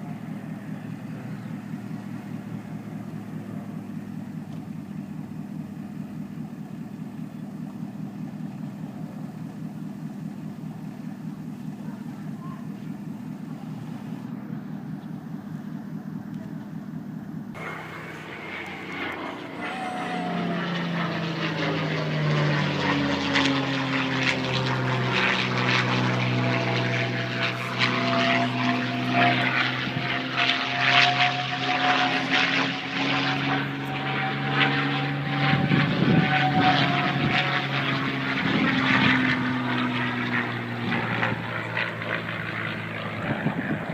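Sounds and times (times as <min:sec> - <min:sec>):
propeller airplane engine drone: 0:00.0 - 0:43.9.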